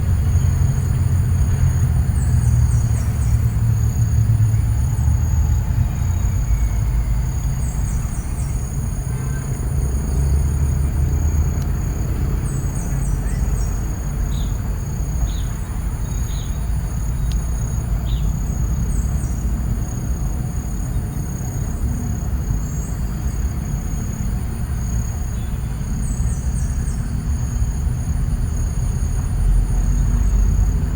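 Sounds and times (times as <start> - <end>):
insect drone: 0.0 - 30.9.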